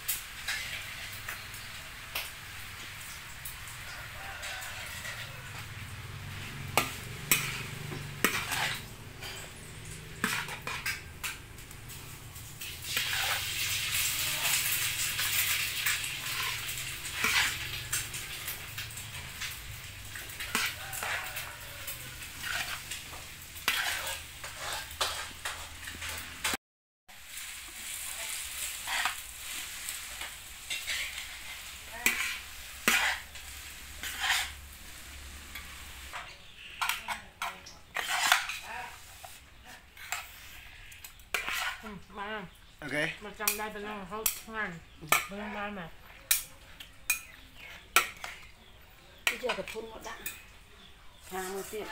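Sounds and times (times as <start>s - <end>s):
food sizzling: 0.0s - 51.9s
metal utensils scraping wok: 0.0s - 51.9s.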